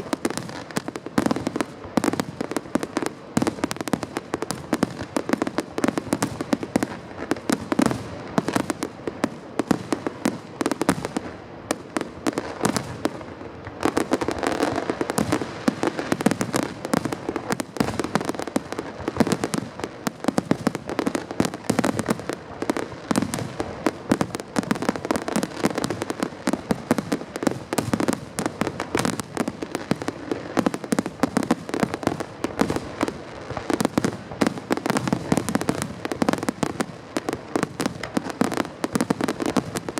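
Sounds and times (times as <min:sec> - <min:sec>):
fireworks barrage: 0:00.0 - 0:39.9.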